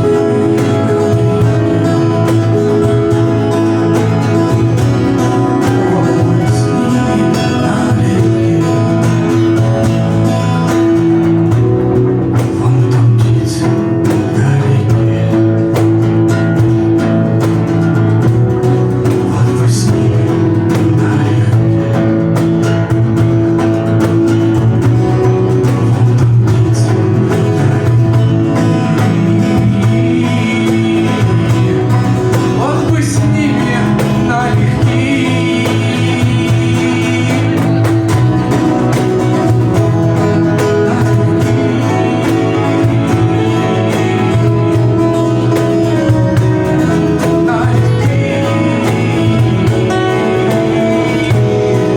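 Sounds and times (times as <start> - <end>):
acoustic guitar playing: 0.0 - 51.9
held melody line: 0.0 - 51.9.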